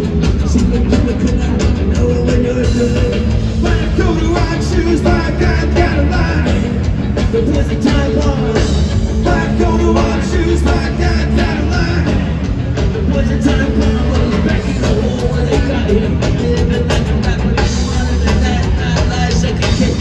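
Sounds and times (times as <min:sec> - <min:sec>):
distant live punk rock band: 0:00.0 - 0:20.0
person singing: 0:00.0 - 0:20.0.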